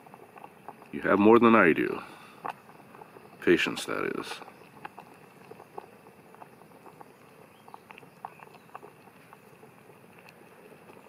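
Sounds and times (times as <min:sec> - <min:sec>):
oatmeal bubbling in a pot: 0:00.0 - 0:11.0.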